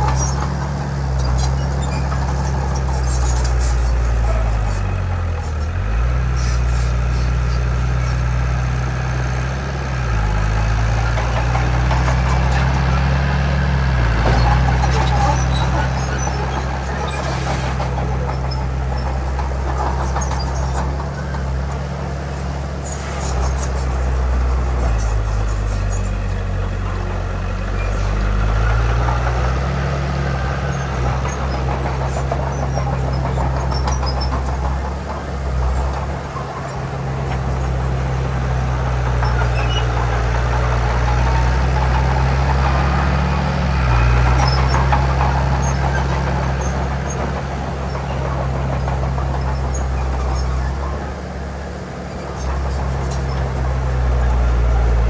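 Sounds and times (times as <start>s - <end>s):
heavy diesel engine under load: 0.0s - 55.0s.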